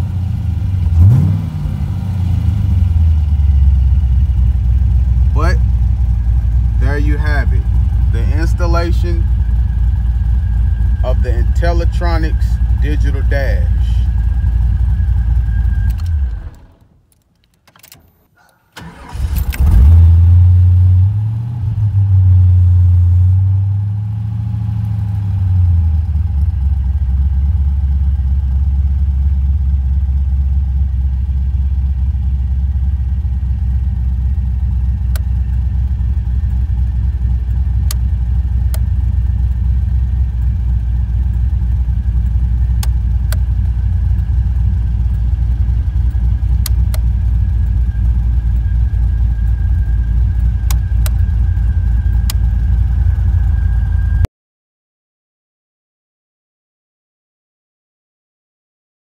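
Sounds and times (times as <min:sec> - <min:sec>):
car engine idling: 0:00.0 - 0:54.3.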